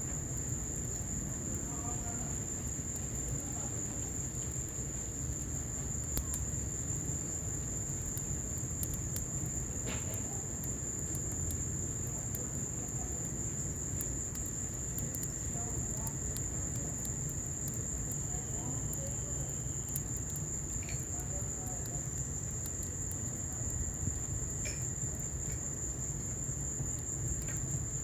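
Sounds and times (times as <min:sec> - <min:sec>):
insect trill: 0:00.0 - 0:28.0
rain falling: 0:00.0 - 0:28.0
wood fire crackling and popping: 0:00.0 - 0:28.0.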